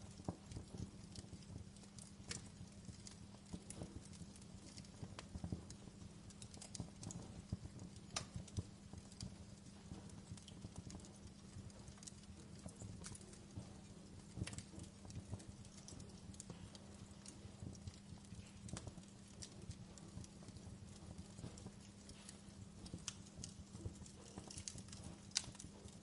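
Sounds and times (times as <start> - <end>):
low steady hum: 0.0 - 26.0
wood fire crackling: 0.0 - 26.0.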